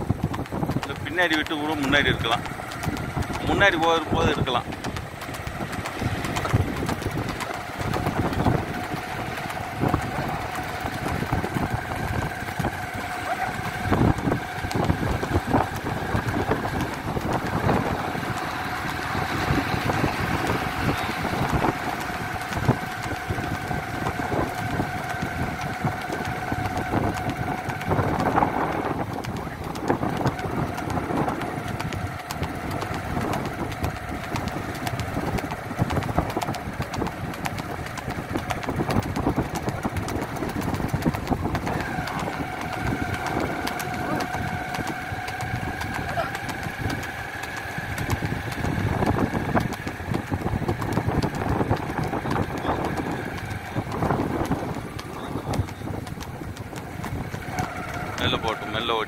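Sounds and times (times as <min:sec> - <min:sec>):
road and wind noise: 0:00.0 - 0:59.0
vehicle engine: 0:00.0 - 0:59.0.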